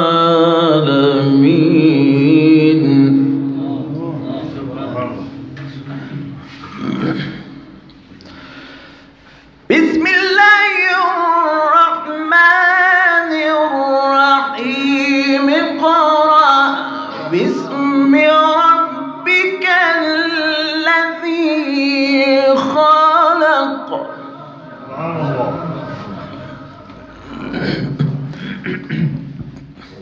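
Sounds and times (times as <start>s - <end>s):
man reciting in melodic chant: 0.0s - 7.9s, 9.6s - 30.0s.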